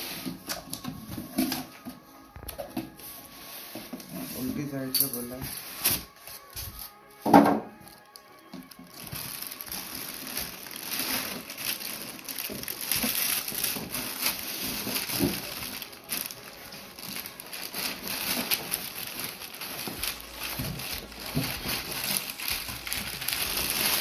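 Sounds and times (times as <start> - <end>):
plastic wrapping crinkling: 0.0 - 24.0.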